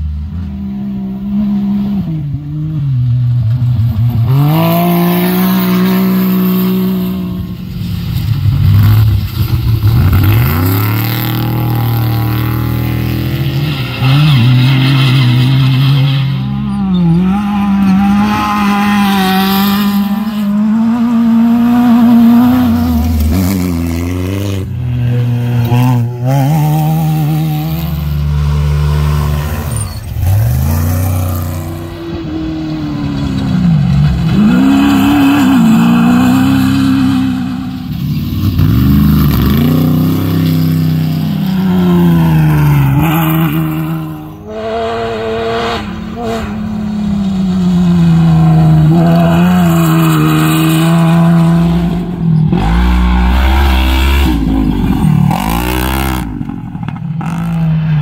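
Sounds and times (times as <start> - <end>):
racing buggy engines revving: 0.0 - 58.0.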